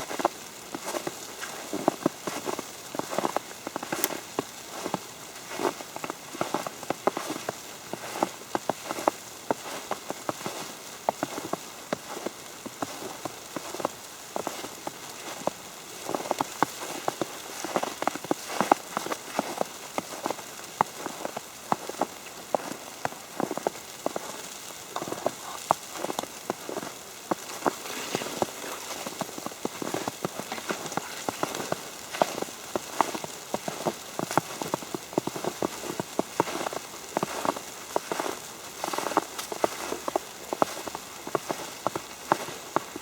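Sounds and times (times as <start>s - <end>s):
wet snow tapping on umbrella: 0.0s - 43.0s.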